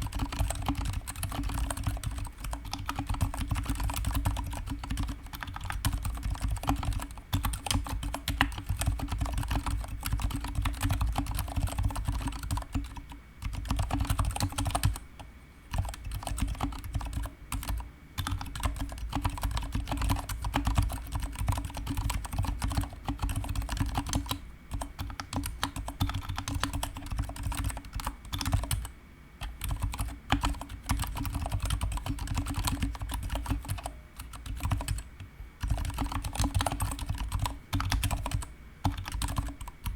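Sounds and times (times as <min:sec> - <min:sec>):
typing on mechanical keyboard: 0:00.0 - 0:15.0, 0:15.7 - 0:39.9.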